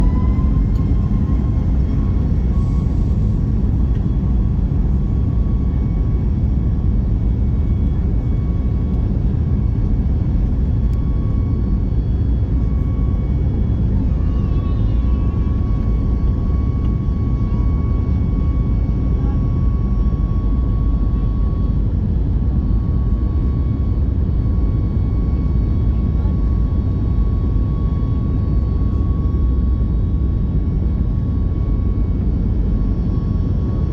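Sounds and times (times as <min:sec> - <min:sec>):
airliner engine rumble: 0:00.0 - 0:33.9.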